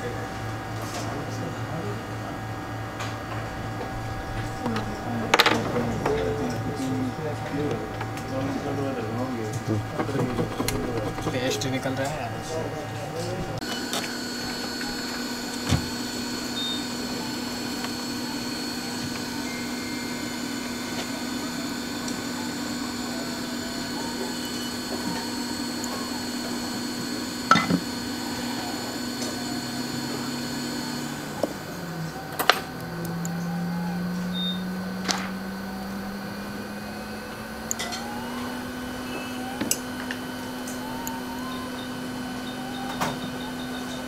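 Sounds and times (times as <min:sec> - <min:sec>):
hot-air blower hum: 0:00.0 - 0:44.0.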